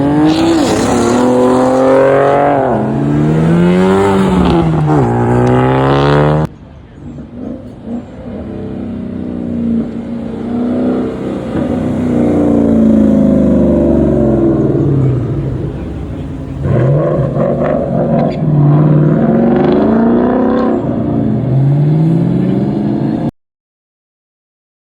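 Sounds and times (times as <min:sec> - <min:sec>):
car engine revving: 0:00.0 - 0:23.3.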